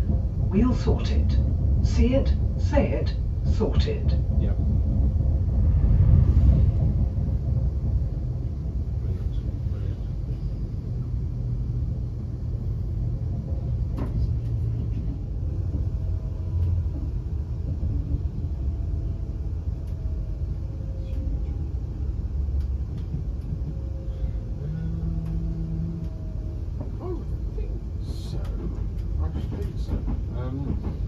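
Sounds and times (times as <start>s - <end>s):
steady low hum: 0.0s - 31.0s
train running rumble: 0.0s - 31.0s.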